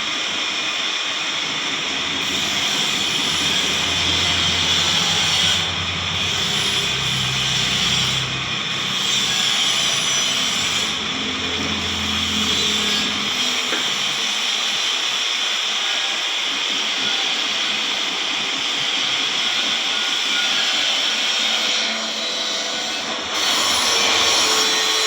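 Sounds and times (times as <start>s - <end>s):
workshop machinery hiss: 0.0s - 25.0s.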